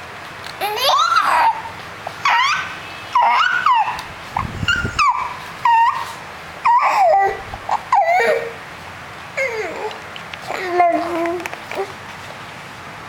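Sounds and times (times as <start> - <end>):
child imitating puppy whimpers: 0.6 - 8.6, 9.4 - 12.0.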